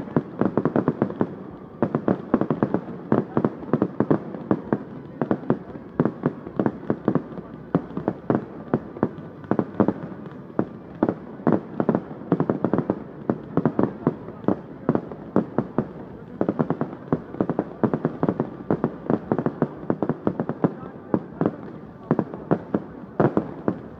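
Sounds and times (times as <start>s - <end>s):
fireworks bangs and pops: 0.0s - 23.9s.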